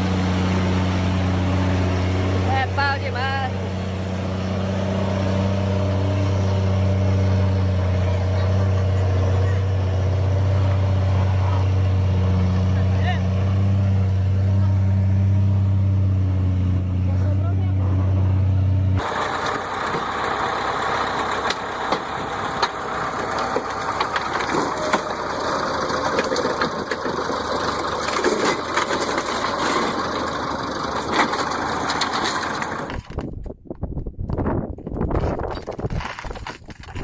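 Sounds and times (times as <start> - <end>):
heavy equipment engine running: 0.0 - 33.2.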